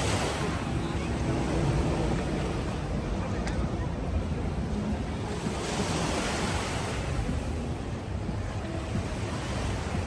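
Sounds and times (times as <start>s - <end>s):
ocean surf washing on beach: 0.0s - 10.0s
wind rumbling on microphone: 0.0s - 10.0s.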